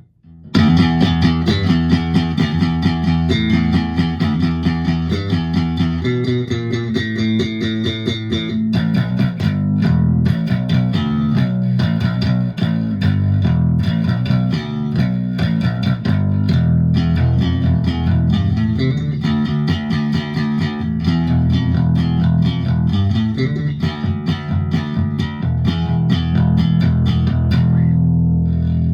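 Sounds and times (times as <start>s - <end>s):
electric bass picked notes: 0.0s - 28.9s.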